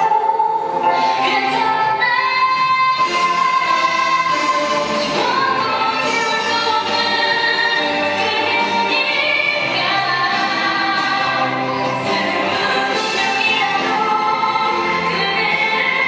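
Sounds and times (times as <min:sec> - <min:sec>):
song accompaniment: 0:00.0 - 0:16.0.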